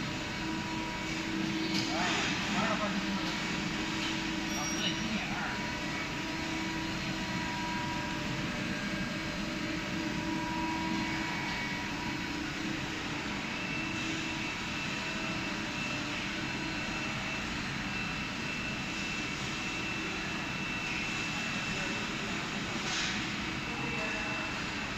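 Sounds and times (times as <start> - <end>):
high machine whine: 0.0 - 24.9
lathe machinery whirring: 0.0 - 24.9.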